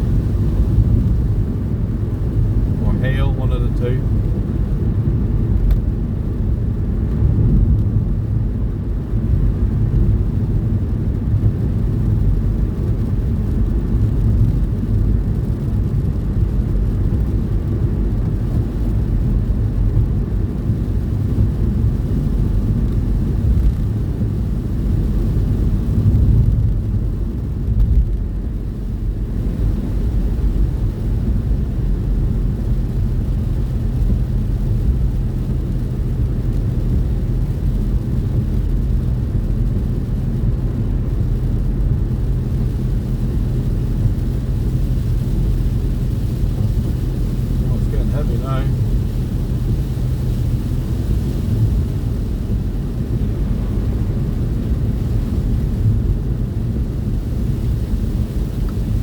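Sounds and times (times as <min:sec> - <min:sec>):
truck engine rumble: 0:00.0 - 0:59.0
tyres on road: 0:00.0 - 0:59.0.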